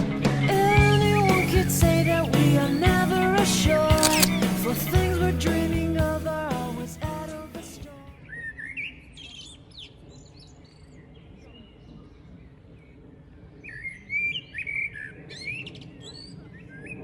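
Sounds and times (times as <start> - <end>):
songbirds chirping and twittering: 0.0 - 17.0.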